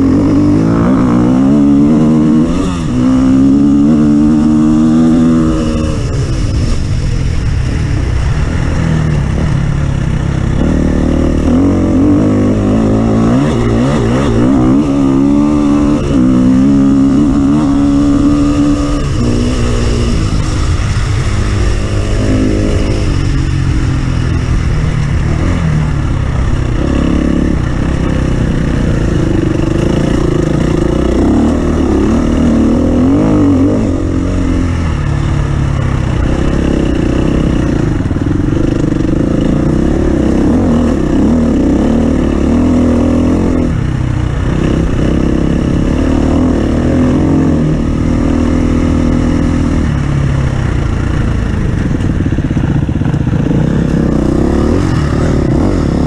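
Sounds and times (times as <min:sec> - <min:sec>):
off-road vehicle engine revving: 0:00.0 - 0:07.0, 0:08.5 - 0:56.0.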